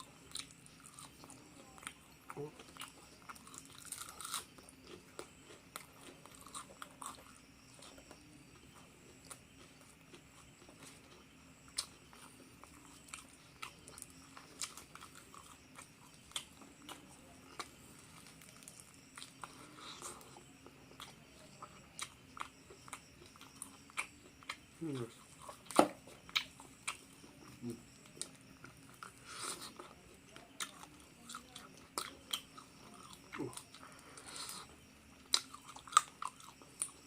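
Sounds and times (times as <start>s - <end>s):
chewing crunchy food: 0.0s - 37.0s.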